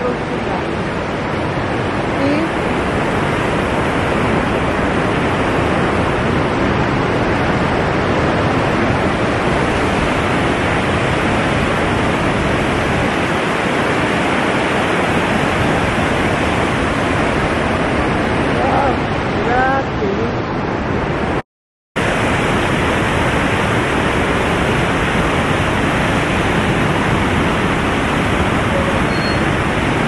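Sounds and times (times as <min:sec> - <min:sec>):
waterfall rushing: 0:00.0 - 0:21.4, 0:22.0 - 0:30.0.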